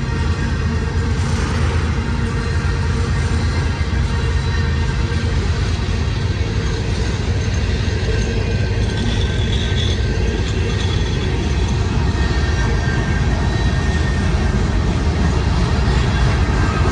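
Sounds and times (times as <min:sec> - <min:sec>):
locomotive engines deep rumble: 0:00.0 - 0:16.9.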